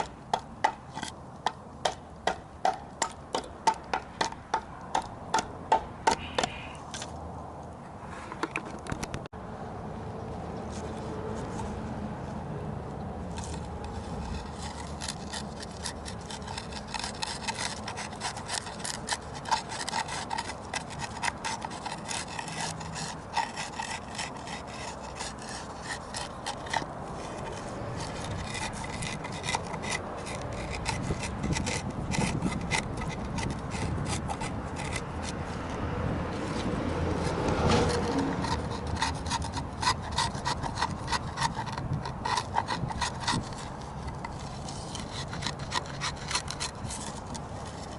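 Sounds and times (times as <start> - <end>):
hand tool scraping wood: 0.0 - 7.1, 13.3 - 47.9.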